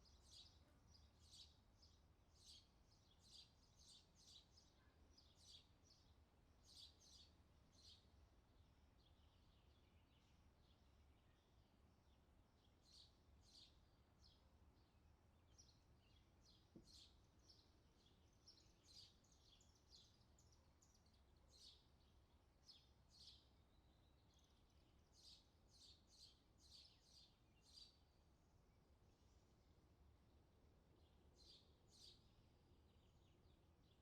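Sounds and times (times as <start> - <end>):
faint bird chirping: 0.0 - 29.8, 30.9 - 34.0.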